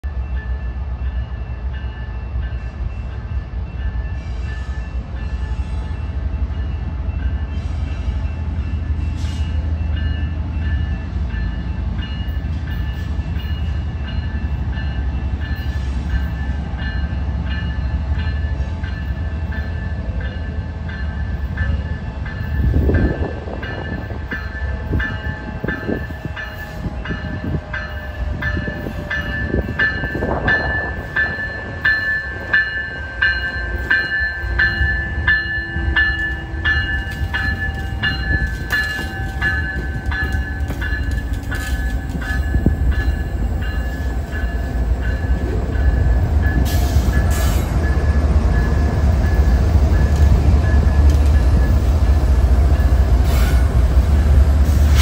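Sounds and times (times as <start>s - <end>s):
diesel locomotives rumbling: 0.0s - 55.0s
railroad crossing bell: 0.0s - 55.0s.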